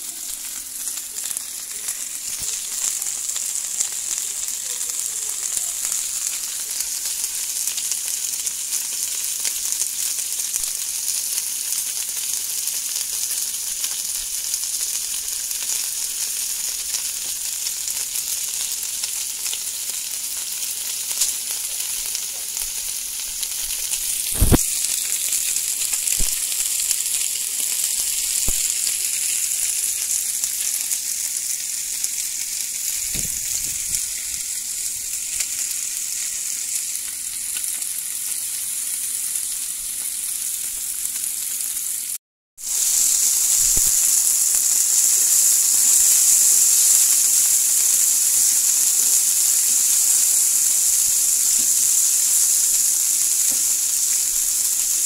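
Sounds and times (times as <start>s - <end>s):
food sizzling in frying pans: 0.0s - 55.0s.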